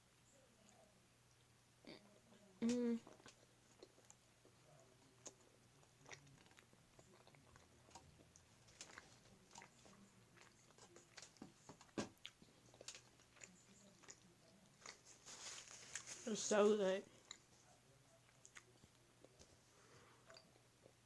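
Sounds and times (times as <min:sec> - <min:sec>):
close-up chewing: 0:00.6 - 0:16.5, 0:17.1 - 0:21.0.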